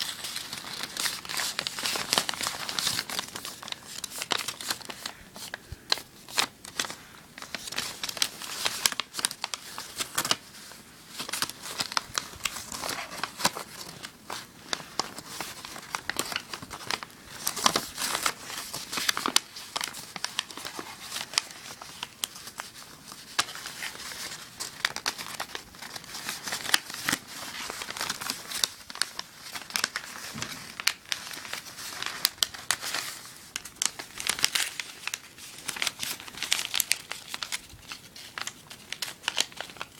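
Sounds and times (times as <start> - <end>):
paper crinkling and rustling: 0.0 - 39.9
sharp paper crackles: 0.0 - 39.9.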